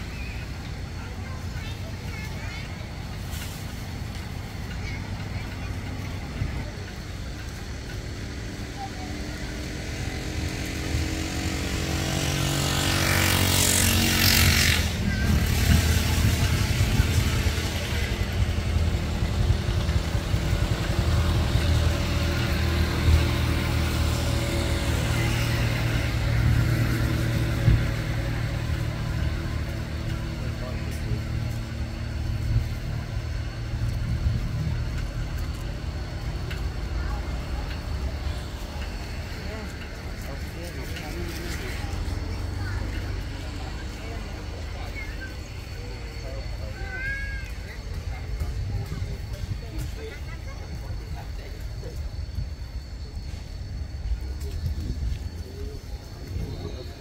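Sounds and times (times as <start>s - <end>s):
vehicle engine passing by: 0.0s - 57.0s.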